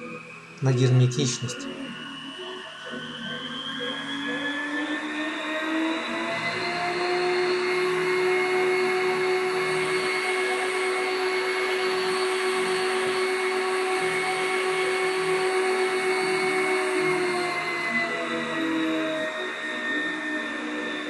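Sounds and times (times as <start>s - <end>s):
vacuum unit turbine whine: 0.0s - 21.0s.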